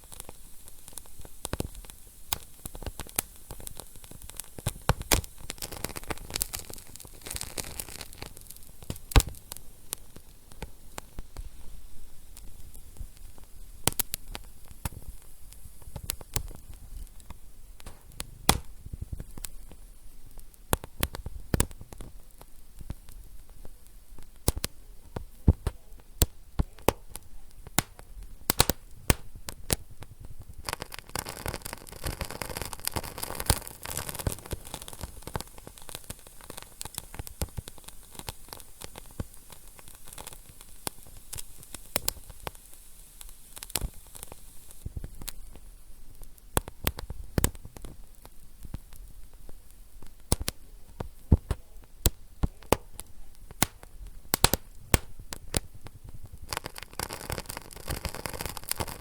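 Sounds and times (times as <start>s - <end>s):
soft steady hiss: 0.0s - 59.0s
wood fire crackling: 0.0s - 59.0s
sharp pops: 0.1s - 11.5s, 12.3s - 23.6s, 24.3s - 49.0s, 50.0s - 59.0s.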